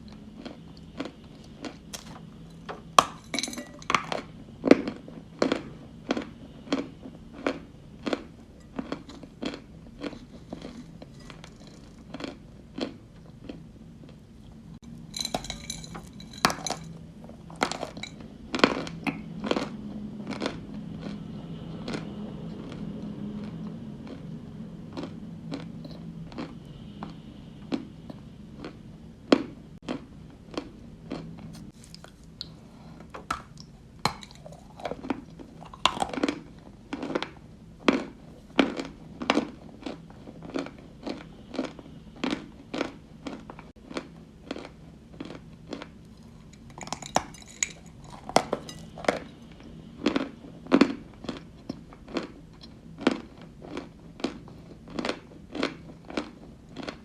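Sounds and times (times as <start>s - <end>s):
chalk crunching while chewed: 0.0s - 3.2s, 3.9s - 14.2s, 16.3s - 24.3s, 24.9s - 27.2s, 28.1s - 57.0s.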